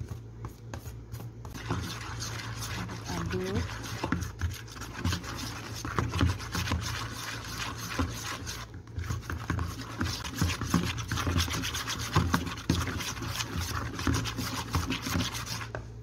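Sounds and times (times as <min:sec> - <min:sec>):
mixer beater scraping bowl: 0:00.0 - 0:15.8.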